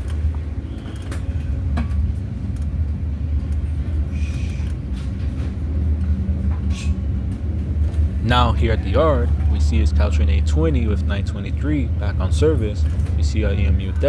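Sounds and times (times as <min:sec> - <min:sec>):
train rumbling from inside: 0:00.0 - 0:14.0.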